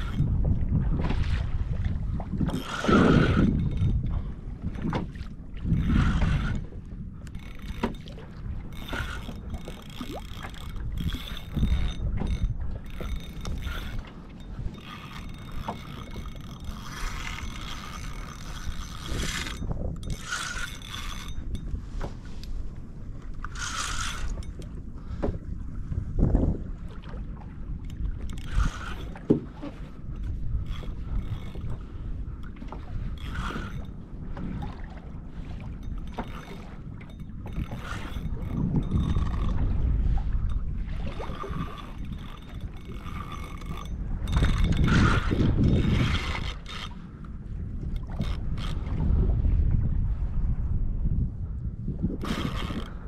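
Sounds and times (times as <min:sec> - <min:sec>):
fishing reel whirring and clicking: 0:00.0 - 0:01.2, 0:02.4 - 0:21.8, 0:22.4 - 0:25.3, 0:27.7 - 0:34.7, 0:35.5 - 0:49.1, 0:52.1 - 0:53.0
water slapping kayak hull: 0:00.0 - 0:53.0
wind buffeting microphone: 0:00.0 - 0:53.0.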